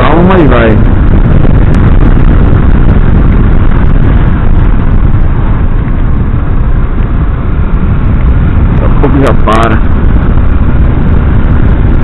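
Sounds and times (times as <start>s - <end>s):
motorcycle rumble: 0.0s - 12.0s
wind rush on microphone: 0.0s - 12.0s.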